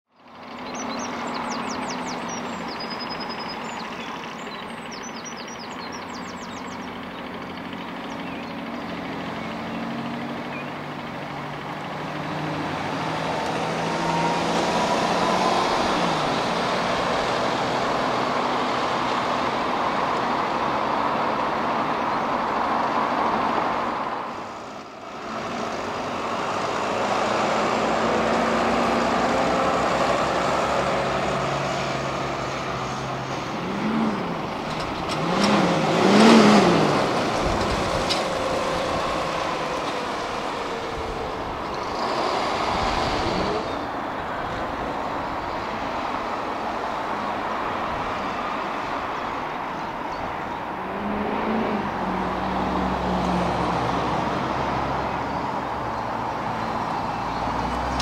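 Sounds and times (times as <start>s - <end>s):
bus engines passing: 0.1s - 58.0s.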